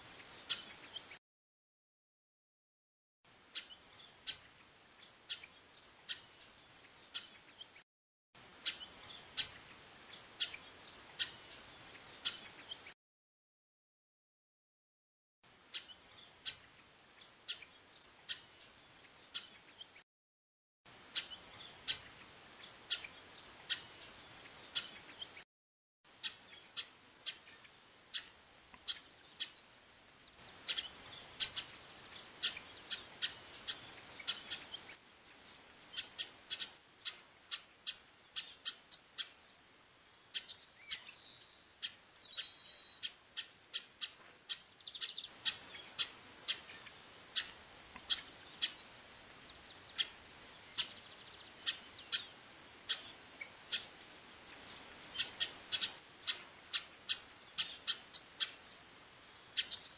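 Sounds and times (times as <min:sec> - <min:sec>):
steady high-pitched hiss: 0:00.0 - 0:01.2, 0:03.3 - 0:07.8, 0:08.4 - 0:13.0, 0:15.5 - 0:20.0, 0:20.9 - 0:25.4, 0:26.1 - 0:59.9.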